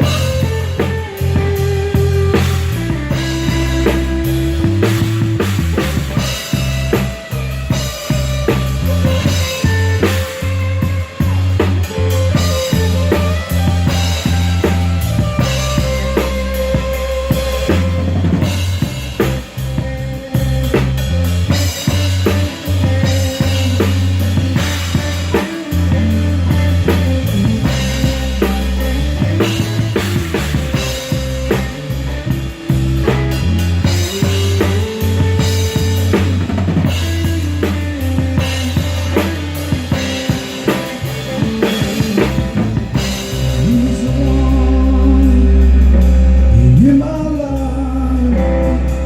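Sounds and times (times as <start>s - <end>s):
drum kit beat: 0.0s - 49.0s
electric bass low notes: 0.0s - 49.0s
guitar sustaining notes: 0.0s - 49.0s.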